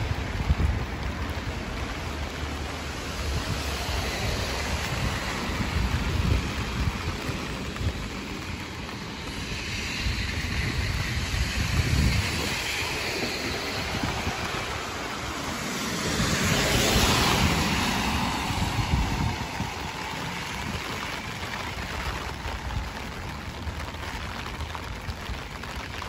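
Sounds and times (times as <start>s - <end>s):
rain hissing on pavement: 0.0s - 26.0s
wind rumble on microphone: 0.0s - 26.0s.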